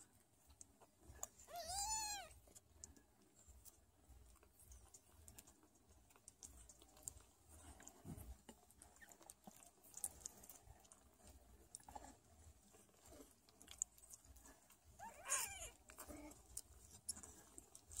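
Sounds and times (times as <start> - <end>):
kittens suckling: 0.0 - 18.0.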